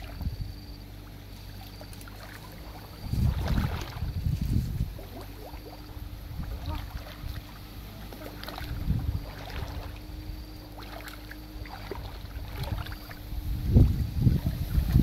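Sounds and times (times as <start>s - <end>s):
water sloshing around wading legs: 0.0s - 15.0s.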